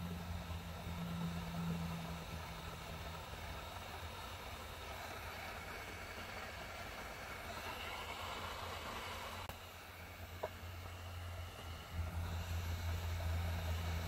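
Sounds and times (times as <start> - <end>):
heat gun blower hissing: 0.0 - 14.0.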